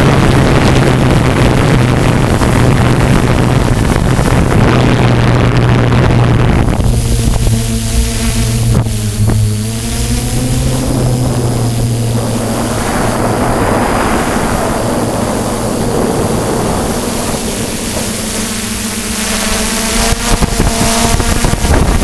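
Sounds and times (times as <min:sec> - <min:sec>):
drone motors humming: 0:00.0 - 0:22.0
rushing noise: 0:00.0 - 0:22.0.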